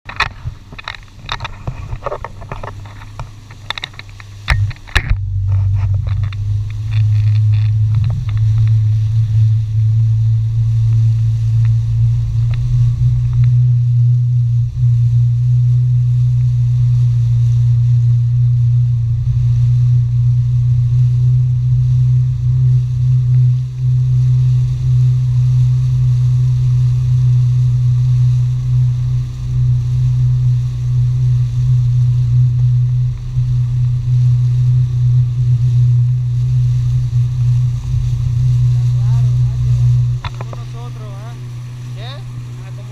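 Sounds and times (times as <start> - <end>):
jet ski engine running: 0.0 - 42.9.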